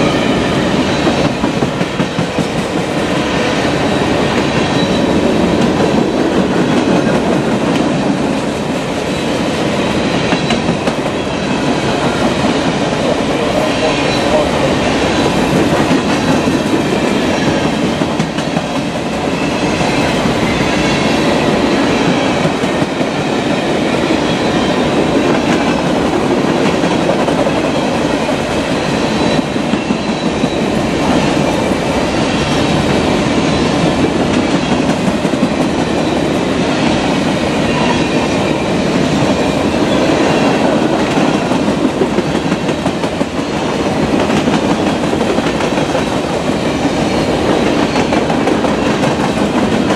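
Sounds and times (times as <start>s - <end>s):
freight train rolling past: 0.0s - 49.9s.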